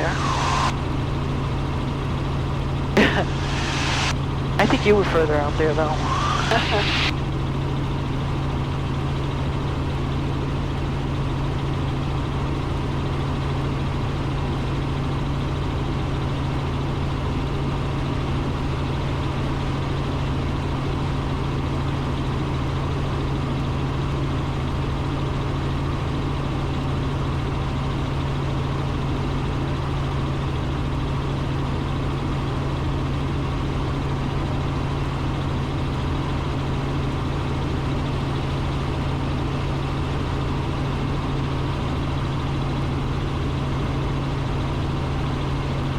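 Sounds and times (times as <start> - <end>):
helicopter rotors and engine drone: 0.0 - 45.9.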